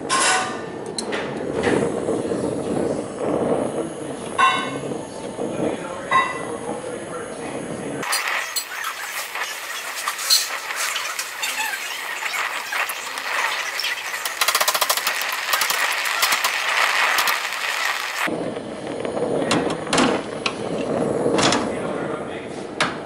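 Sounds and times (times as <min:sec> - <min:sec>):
torch flame hissing: 0:01.3 - 0:22.8.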